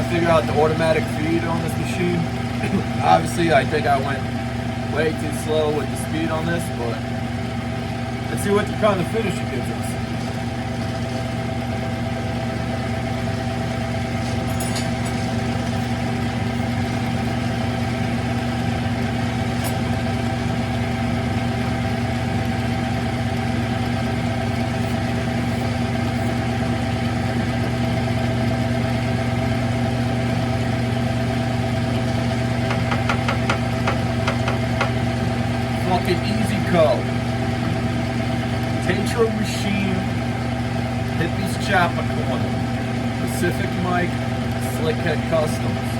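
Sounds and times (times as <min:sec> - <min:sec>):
lathe motor and gear hum: 0:00.0 - 0:45.9.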